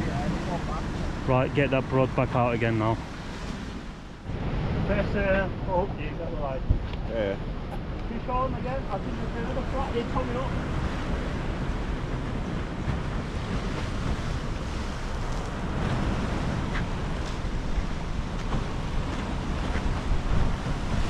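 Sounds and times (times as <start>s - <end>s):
sea surf washing on shore: 0.0s - 21.0s
wind buffeting microphone: 2.6s - 21.0s.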